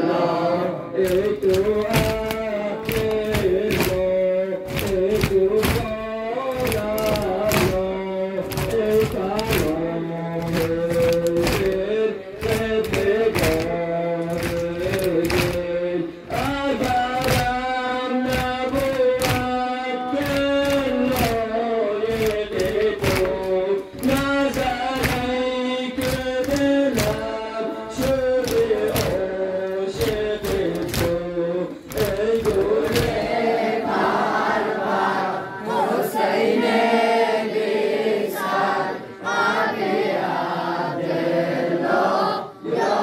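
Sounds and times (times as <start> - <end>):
men chanting in unison: 0.0 - 43.0
rhythmic chest-beating: 0.1 - 43.0.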